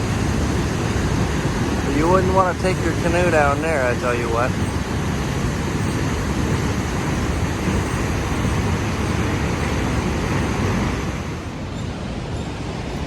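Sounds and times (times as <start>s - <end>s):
river flowing: 0.0s - 13.0s
waterfall roaring: 0.0s - 13.0s.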